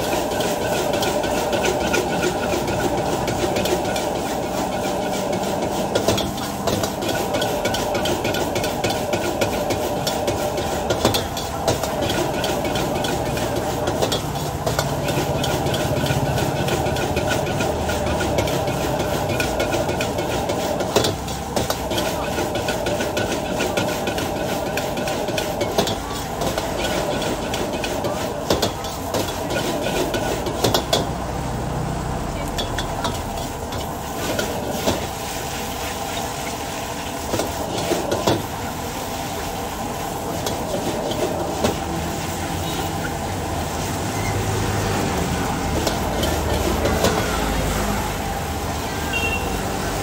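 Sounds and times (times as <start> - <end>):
metal ladle scraping wok: 0.0 - 31.2, 39.4 - 49.5
food sizzling: 0.0 - 50.0
gas burner rushing: 0.0 - 50.0.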